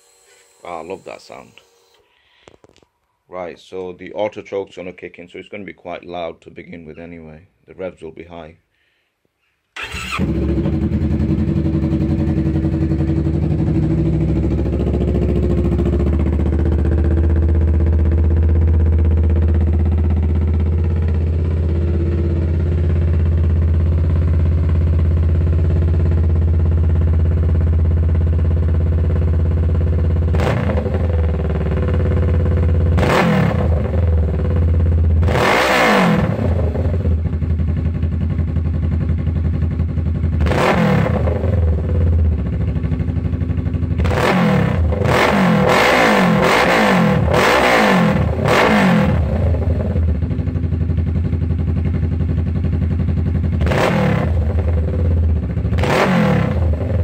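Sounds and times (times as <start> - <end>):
motorcycle engine idling high: 9.8 - 57.0.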